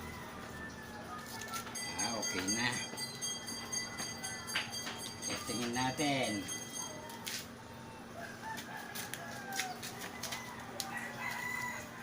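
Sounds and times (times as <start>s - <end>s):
roosters crowing: 0.0s - 5.9s, 8.0s - 12.0s.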